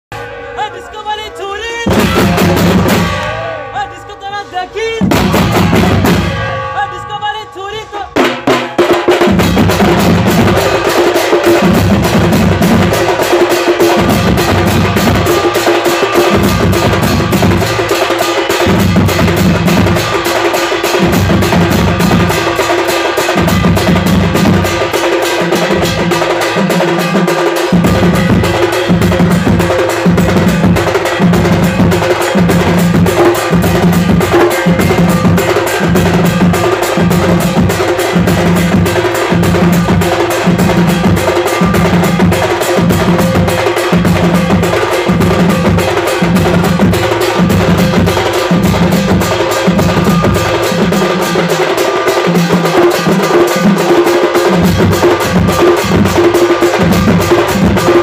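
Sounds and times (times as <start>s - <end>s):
fast driving drumming: 1.8s - 4.0s, 4.9s - 7.4s, 8.0s - 58.0s.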